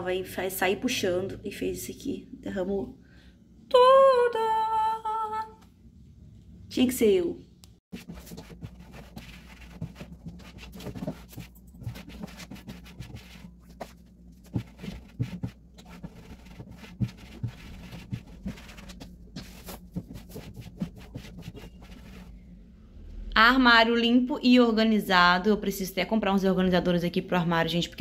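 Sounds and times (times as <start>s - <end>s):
low steady hum: 0.0s - 27.7s.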